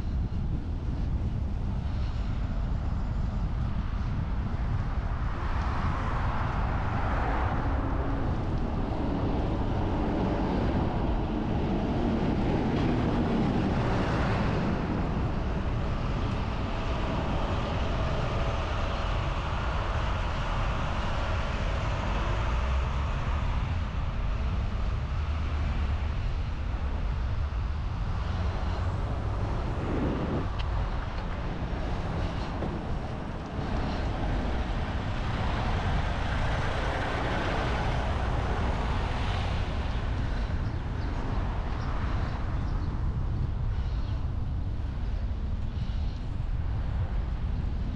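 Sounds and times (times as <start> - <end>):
road traffic rumble: 0.0 - 47.9
wind noise: 0.0 - 47.9.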